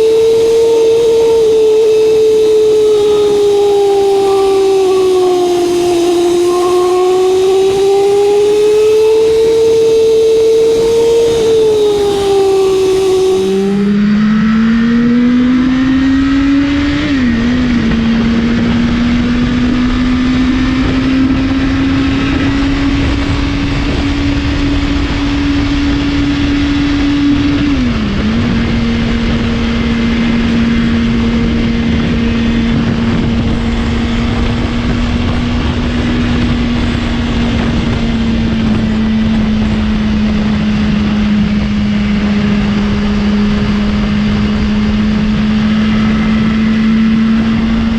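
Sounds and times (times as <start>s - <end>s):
motorcycle engine under load: 0.0s - 47.9s
wind noise on microphone: 0.0s - 47.9s.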